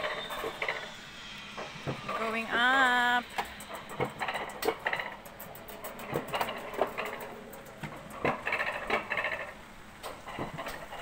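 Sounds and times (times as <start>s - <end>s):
roller coaster clattering on track: 0.0s - 11.0s.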